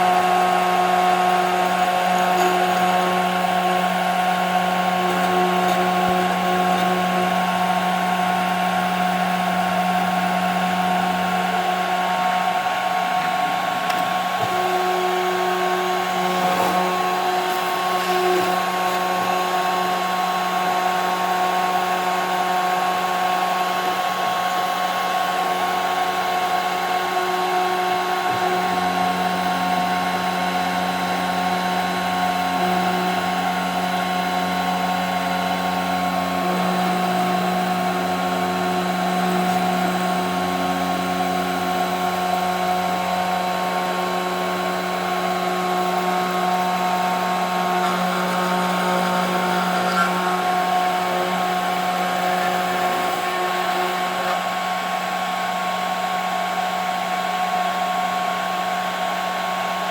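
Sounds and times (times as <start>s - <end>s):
stepper motor tones: 0.0s - 56.2s
router spindle whine: 0.0s - 59.9s.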